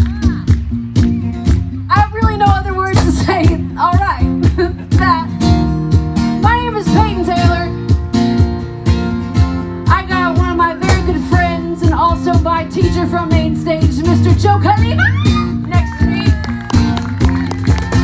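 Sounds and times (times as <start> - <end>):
live band with guitar: 0.0 - 18.0.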